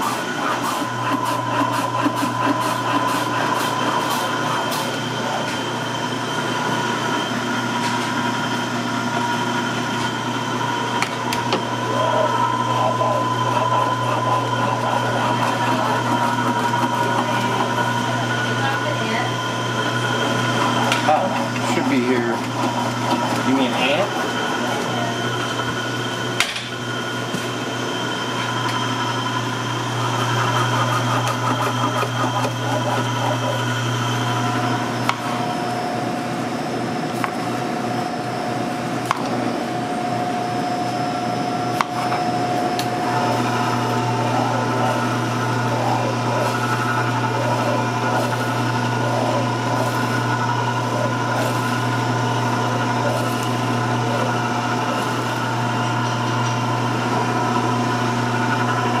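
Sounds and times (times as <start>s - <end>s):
deli slicer motor humming: 0.0s - 59.0s.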